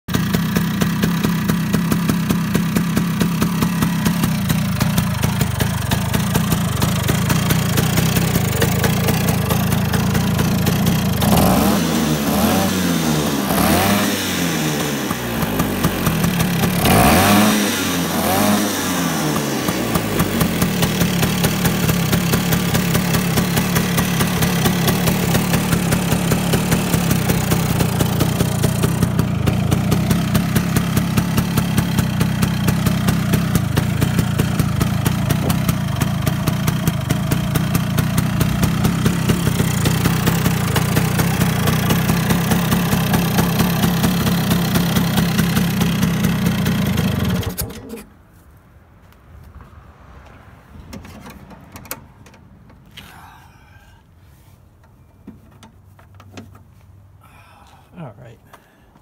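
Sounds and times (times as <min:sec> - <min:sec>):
scooter engine idling: 0:00.1 - 0:48.1.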